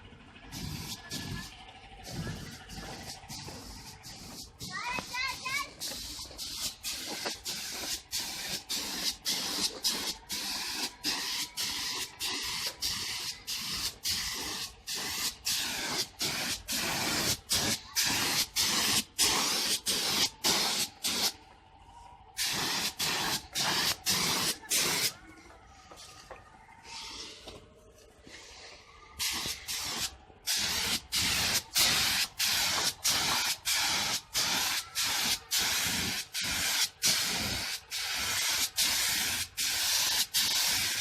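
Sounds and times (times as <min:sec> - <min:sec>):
spray gun hissing in bursts: 0:00.5 - 0:21.4, 0:22.4 - 0:25.1, 0:29.2 - 0:41.0.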